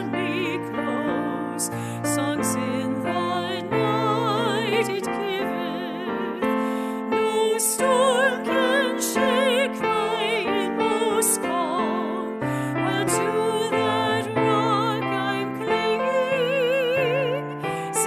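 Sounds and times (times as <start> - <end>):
person singing with vibrato: 0.0 - 18.0
sustained piano chords: 0.0 - 18.0.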